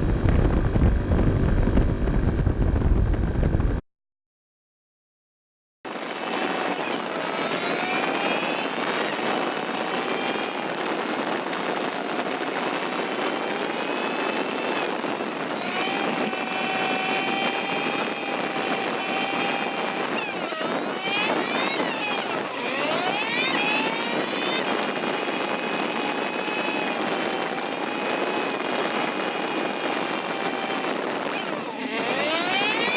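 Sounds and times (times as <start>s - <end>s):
motorcycle engine under load: 0.0s - 3.8s, 5.9s - 32.9s
wind noise: 0.0s - 3.8s, 5.9s - 32.9s.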